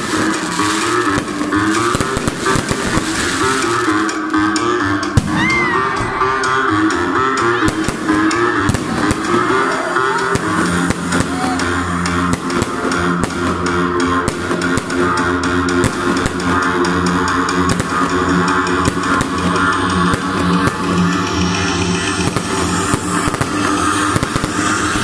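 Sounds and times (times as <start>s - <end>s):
fireworks bursting: 0.0s - 25.0s
rock music over sound system: 0.0s - 25.0s.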